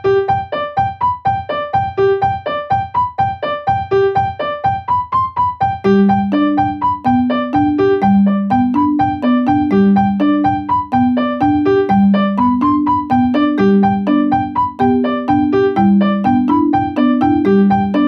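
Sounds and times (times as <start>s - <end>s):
bouncy keyboard tune: 0.0s - 18.0s.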